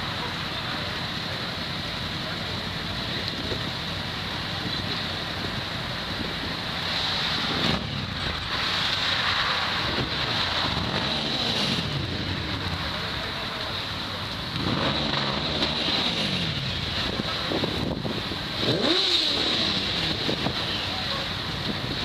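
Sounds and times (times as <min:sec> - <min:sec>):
motorcycles on road: 0:00.0 - 0:22.0.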